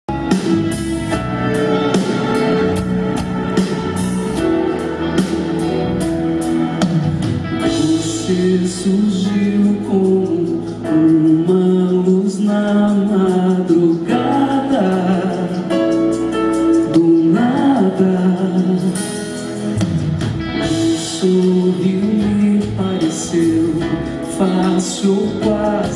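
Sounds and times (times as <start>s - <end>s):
live band playing with singing: 0.1s - 25.9s.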